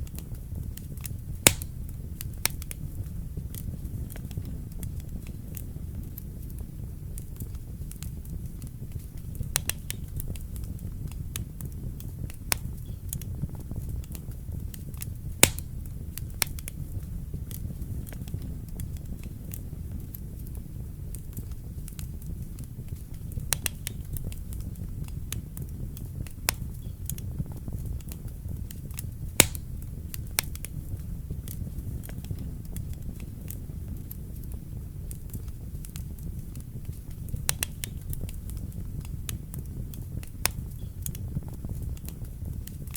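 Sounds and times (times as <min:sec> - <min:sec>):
burning logs crackling and popping: 0:00.0 - 0:42.9
fire rumbling: 0:00.0 - 0:42.9.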